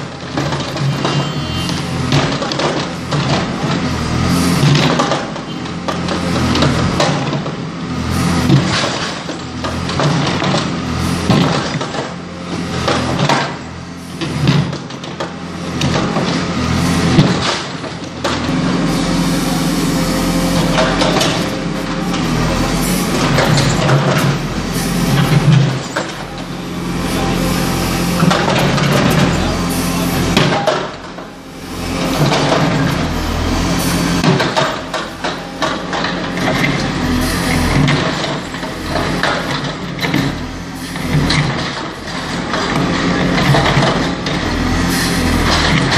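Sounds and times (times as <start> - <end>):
diesel engine working hard: 0.0 - 45.9.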